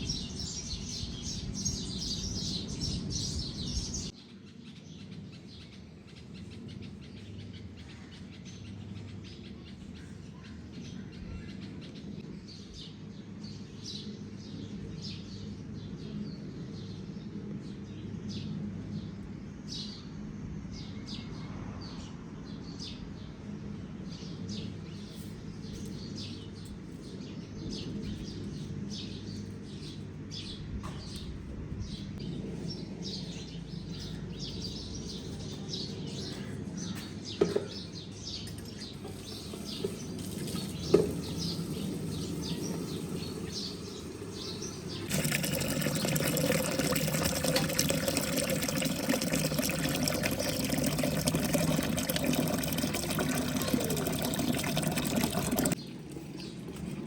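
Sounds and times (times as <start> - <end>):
birds chirping: 0.0 - 13.0, 24.3 - 57.0.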